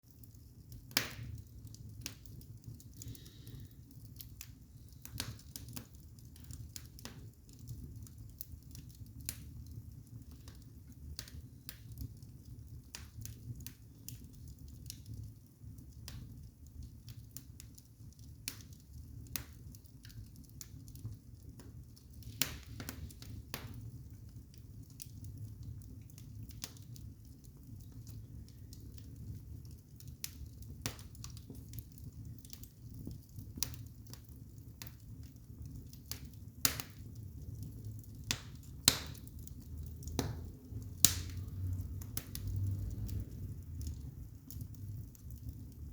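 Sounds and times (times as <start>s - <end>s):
low fire rumble: 0.0s - 45.9s
campfire crackling and popping: 0.1s - 45.9s.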